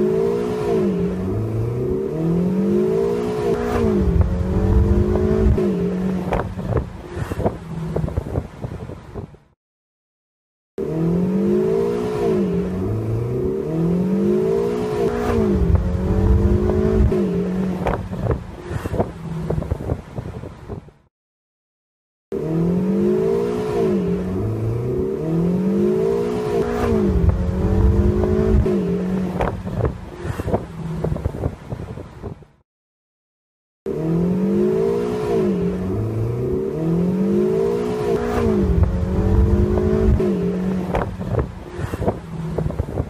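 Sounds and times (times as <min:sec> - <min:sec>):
sports car engine revving: 0:00.0 - 0:08.4, 0:10.8 - 0:19.8, 0:22.3 - 0:31.5, 0:33.9 - 0:43.0.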